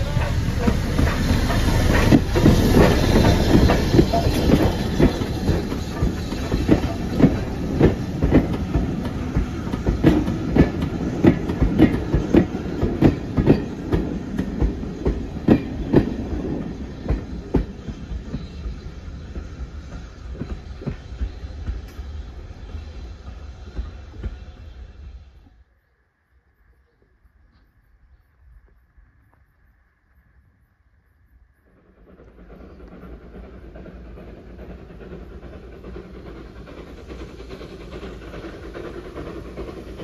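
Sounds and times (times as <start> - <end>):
train wheels clicking on rail joints: 0.0 - 25.6, 31.6 - 40.0
train rumble: 0.0 - 40.0.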